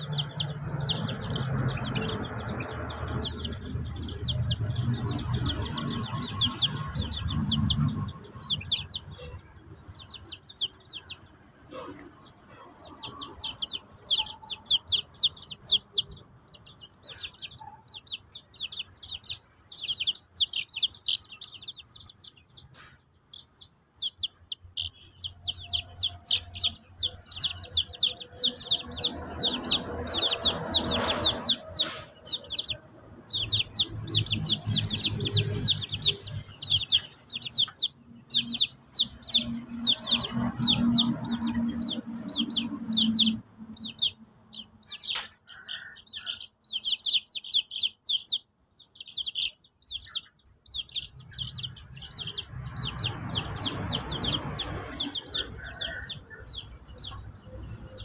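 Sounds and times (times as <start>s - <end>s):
young chickens peeping: 0.0s - 58.0s.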